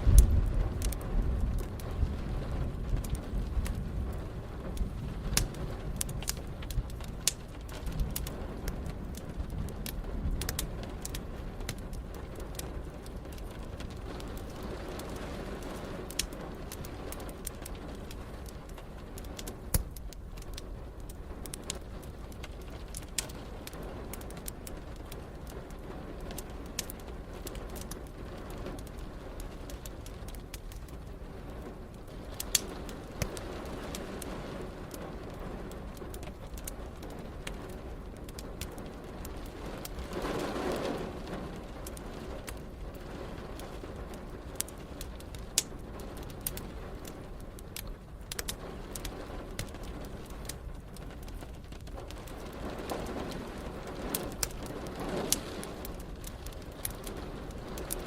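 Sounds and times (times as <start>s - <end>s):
low background rumble: 0.0s - 58.0s
rain: 0.0s - 58.0s
wood fire crackling: 0.0s - 58.0s.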